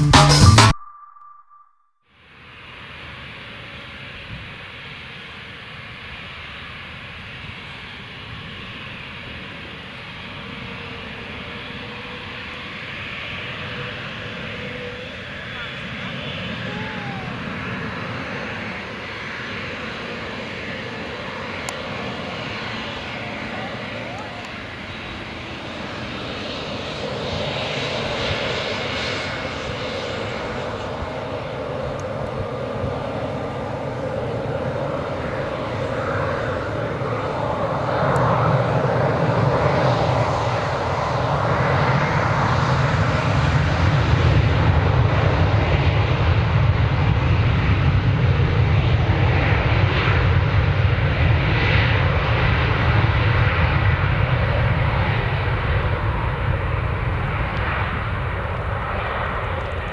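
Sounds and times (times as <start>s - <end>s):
jet engines rumbling: 2.9s - 59.9s.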